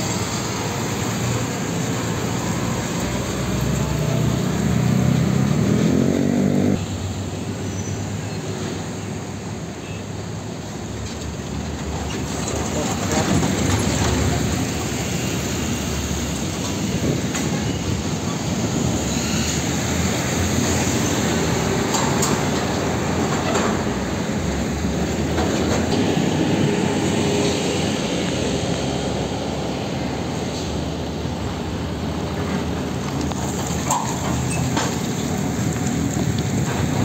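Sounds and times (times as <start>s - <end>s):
heavy trucks driving past: 0.0s - 37.0s.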